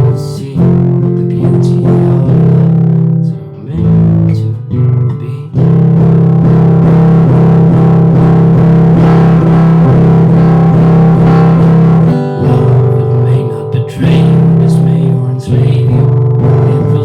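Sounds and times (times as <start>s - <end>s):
guitar strummed fast: 0.0s - 17.0s.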